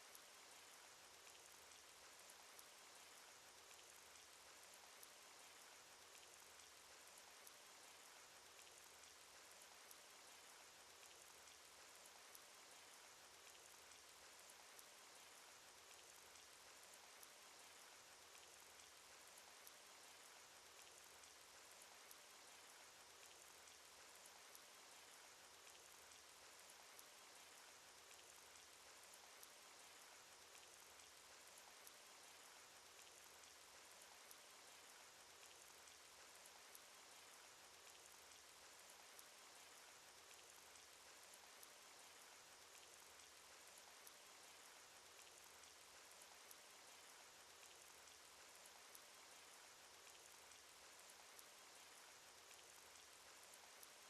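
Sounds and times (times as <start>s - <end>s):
raindrop ticks: 0.0s - 54.0s.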